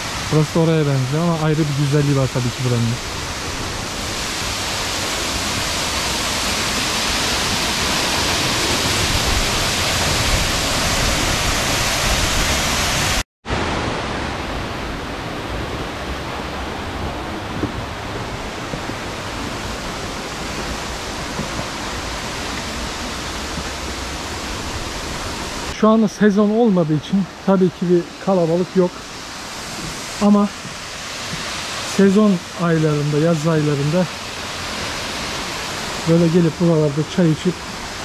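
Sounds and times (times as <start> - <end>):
waterfall rushing into pool: 0.0 - 38.0.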